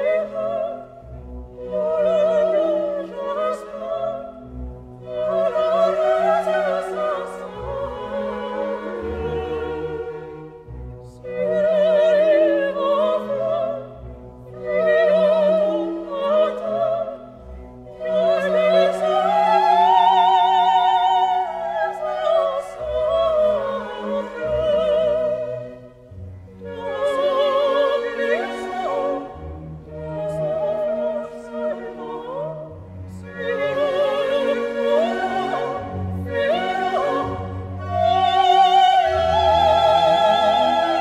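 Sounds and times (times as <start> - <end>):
orchestra: 0.0 - 41.0.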